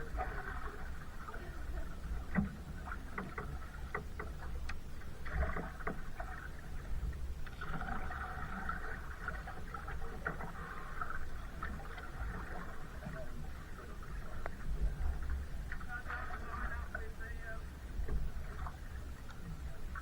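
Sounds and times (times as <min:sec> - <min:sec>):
paddle splashing in water: 0:00.0 - 0:20.0.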